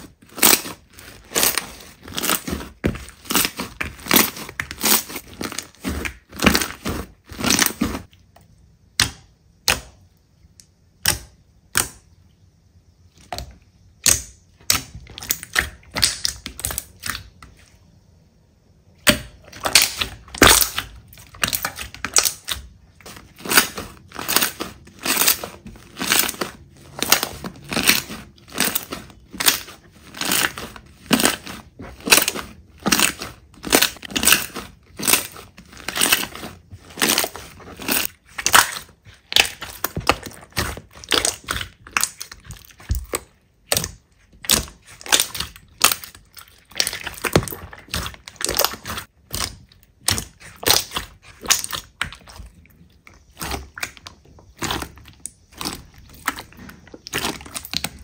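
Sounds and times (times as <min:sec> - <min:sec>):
slime popping and crackling: 0:00.0 - 0:08.1, 0:14.0 - 0:17.3, 0:19.0 - 0:58.0.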